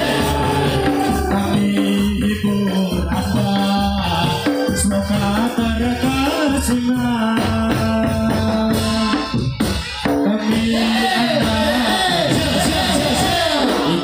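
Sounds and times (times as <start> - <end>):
drum strokes: 0.0 - 14.0.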